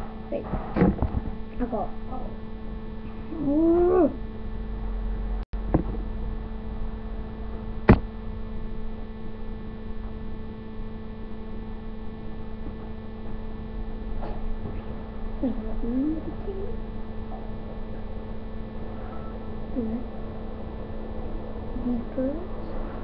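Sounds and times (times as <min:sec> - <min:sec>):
high whine: 0:00.0 - 0:23.0
steady electrical hum: 0:00.0 - 0:23.0.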